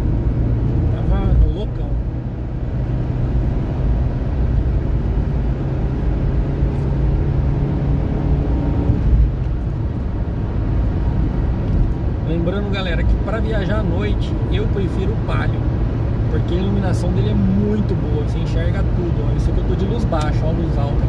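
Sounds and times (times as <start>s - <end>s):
car engine hum: 0.0s - 21.0s
low tyre rumble: 0.0s - 21.0s.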